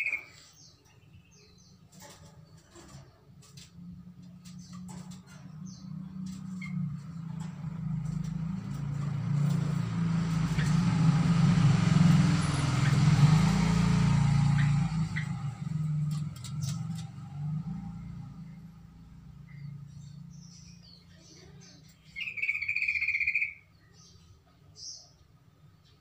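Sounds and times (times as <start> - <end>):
vehicle engine passing by: 1.4 - 22.4.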